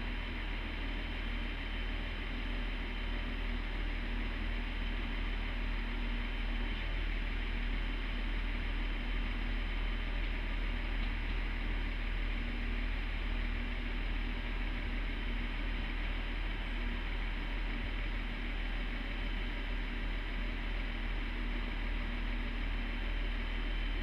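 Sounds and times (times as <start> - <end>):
standing train rumble and hiss: 0.0 - 24.0.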